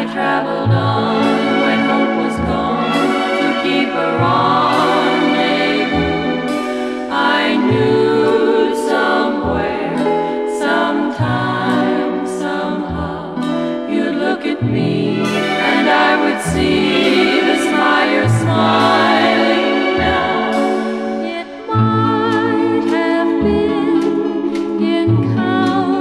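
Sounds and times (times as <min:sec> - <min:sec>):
choir singing: 0:00.0 - 0:26.0
instrumental backing: 0:00.0 - 0:26.0.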